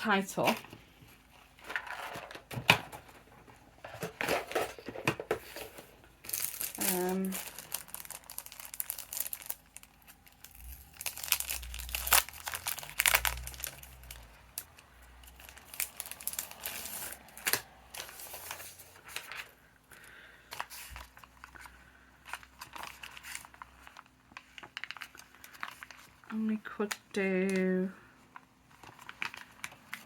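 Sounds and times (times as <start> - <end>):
paper crinkling and rustling: 0.4 - 30.0.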